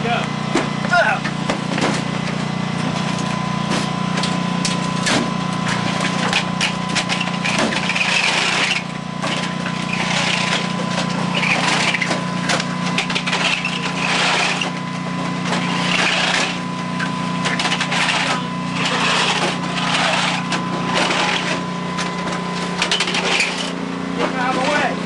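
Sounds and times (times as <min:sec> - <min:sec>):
clattering knocks and scraping: 0:00.5 - 0:24.9.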